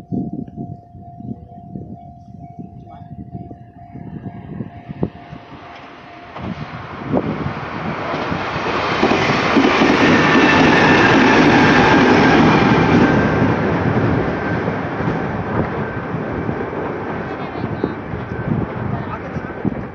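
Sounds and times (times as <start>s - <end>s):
train passing over level crossing: 1.9s - 19.9s.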